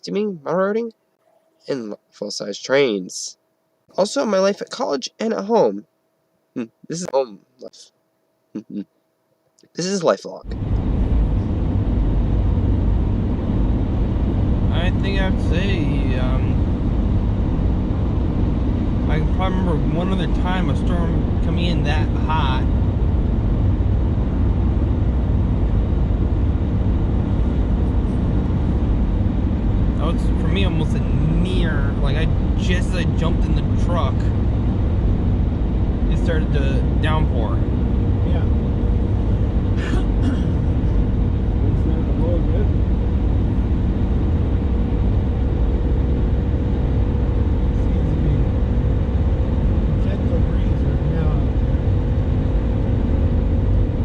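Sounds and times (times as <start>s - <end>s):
faint steady hum: 0.0s - 54.0s
moving vehicle rumble: 10.4s - 54.0s.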